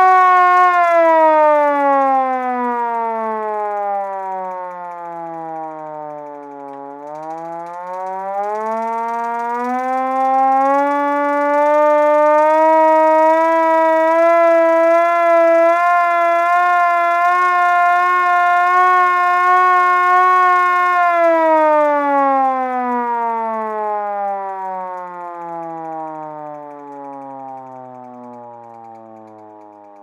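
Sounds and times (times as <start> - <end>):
hand-cranked fire siren: 0.0 - 30.0.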